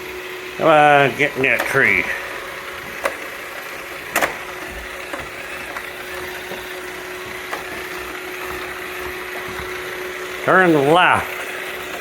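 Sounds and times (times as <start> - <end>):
robot vacuum humming: 0.0 - 12.0.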